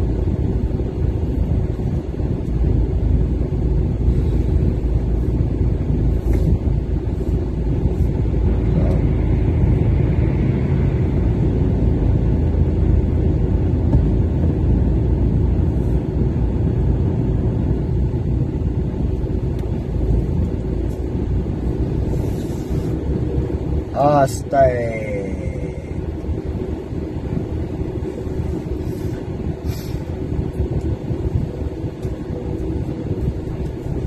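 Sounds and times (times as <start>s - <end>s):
diesel engine rumble: 0.0s - 34.0s.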